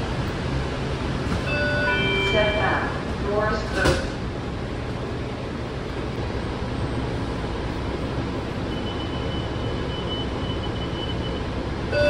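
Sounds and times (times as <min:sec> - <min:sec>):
railcar rumble and ventilation hum: 0:00.0 - 0:12.0.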